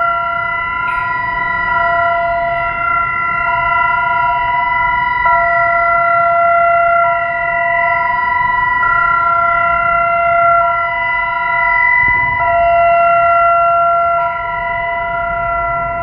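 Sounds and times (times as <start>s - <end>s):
steady multi-tone warning siren: 0.0s - 16.0s.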